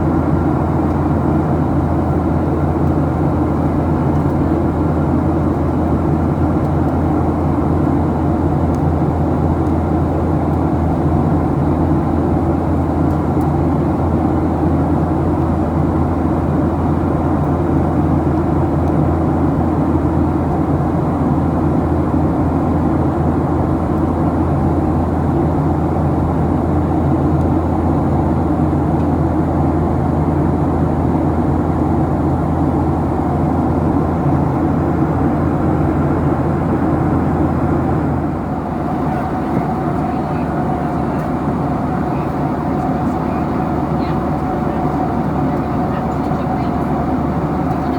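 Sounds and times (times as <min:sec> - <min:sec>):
airplane cabin engine noise: 0:00.0 - 0:47.9.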